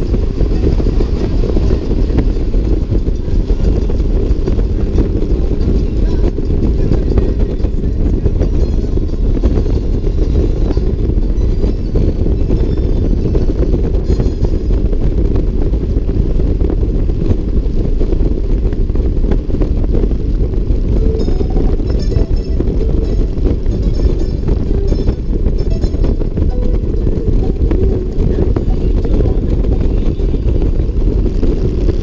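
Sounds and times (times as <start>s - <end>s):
motorcycle engine cruising: 0.0s - 32.0s
wind rush on microphone: 0.0s - 32.0s.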